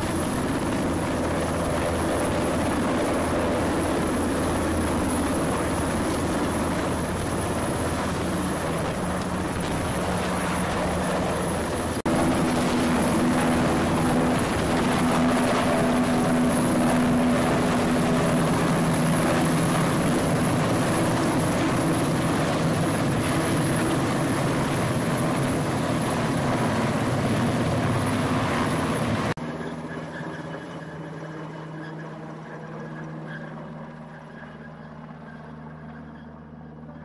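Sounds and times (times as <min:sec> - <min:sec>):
helicopter rotor and turbine noise: 0:00.0 - 0:37.0.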